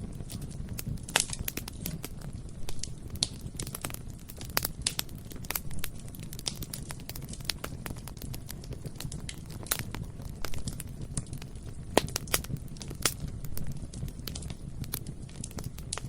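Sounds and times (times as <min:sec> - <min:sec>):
bonfire flames roaring: 0:00.0 - 0:16.0
fire crackles and pops: 0:00.0 - 0:16.0.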